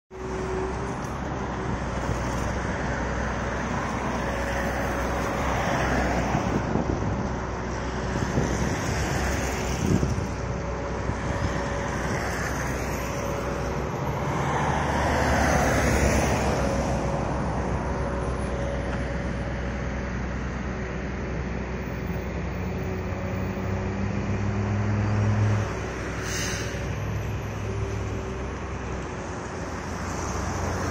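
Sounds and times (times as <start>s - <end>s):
city road traffic: 0.1s - 30.9s.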